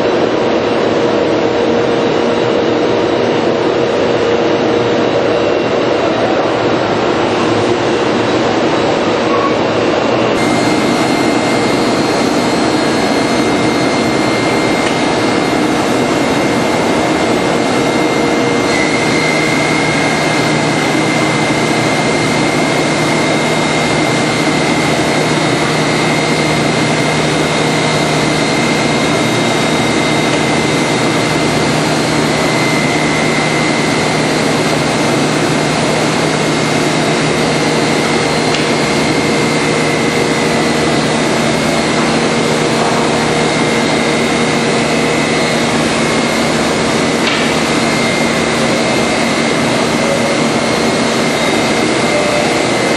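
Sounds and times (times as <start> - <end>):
planer running with high whine: 0.0 - 52.9
low hum: 1.4 - 52.9.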